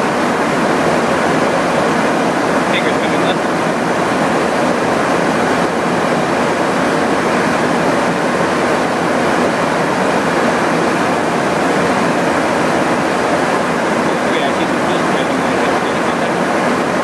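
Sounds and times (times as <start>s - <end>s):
aircraft cabin airflow and engines: 0.0s - 17.0s.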